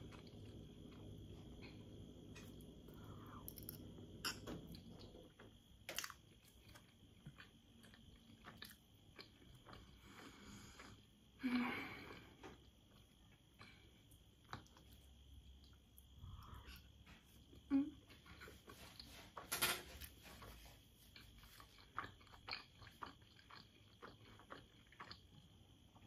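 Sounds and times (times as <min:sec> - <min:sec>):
chewing food: 0:00.0 - 0:11.2, 0:12.0 - 0:26.0.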